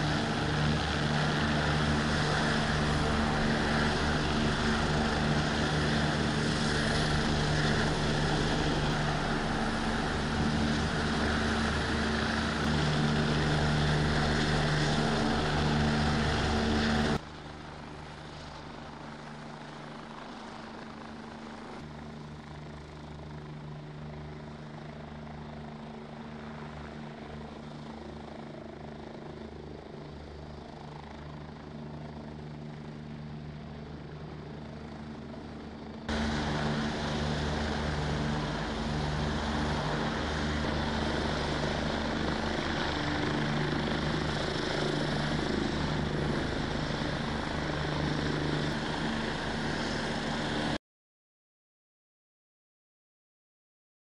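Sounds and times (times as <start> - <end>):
helicopter rotor and engine: 0.0 - 50.8.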